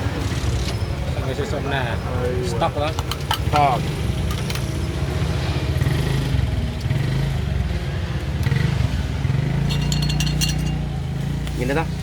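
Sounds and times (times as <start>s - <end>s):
engine humming: 1.9s - 12.0s.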